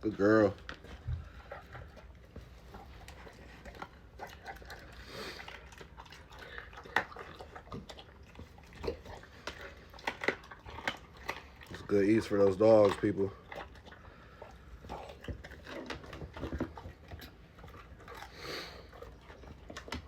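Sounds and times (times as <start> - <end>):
dogs chewing food: 0.0 - 20.0.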